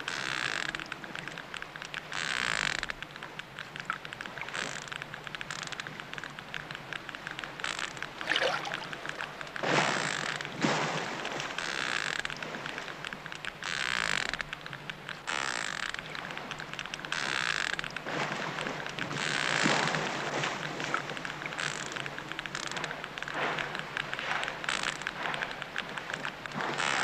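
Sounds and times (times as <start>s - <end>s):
whale clicking: 0.0s - 27.0s.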